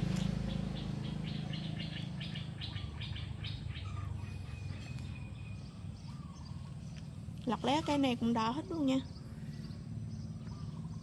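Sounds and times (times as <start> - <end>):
low steady hum: 0.0 - 11.0
small bird chirping: 0.0 - 11.0.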